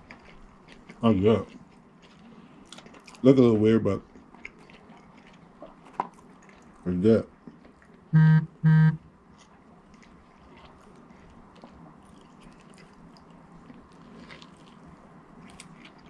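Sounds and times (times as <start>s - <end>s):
man chewing food: 0.0s - 16.0s.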